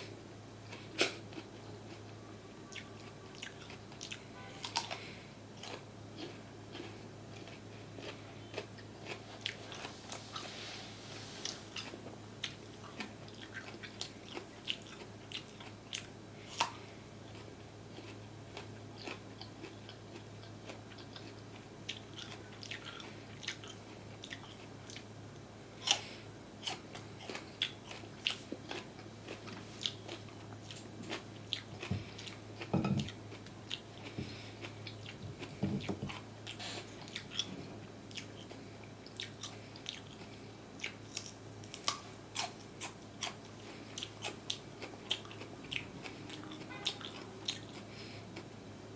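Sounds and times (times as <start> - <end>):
biting and chewing food: 0.0 - 10.5, 11.4 - 48.7
steady low hum: 0.0 - 48.9.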